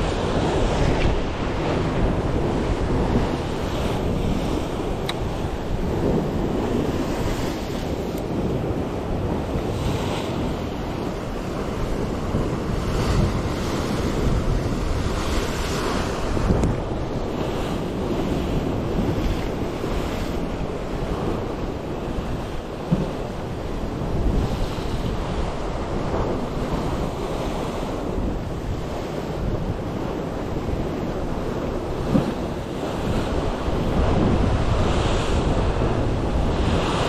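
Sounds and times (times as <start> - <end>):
waves washing against rocks: 0.0 - 37.0
wind buffeting microphone: 0.0 - 37.0.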